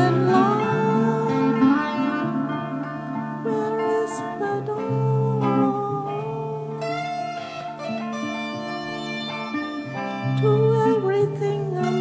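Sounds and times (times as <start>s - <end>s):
music with sliding held notes: 0.0s - 12.0s.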